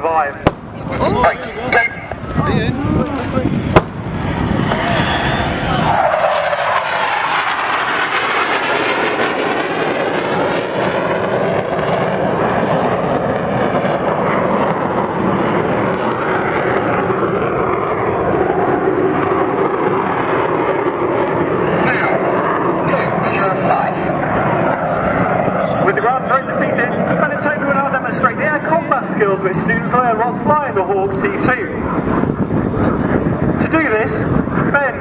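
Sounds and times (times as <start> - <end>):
jet aircraft flying past: 0.0 - 35.0.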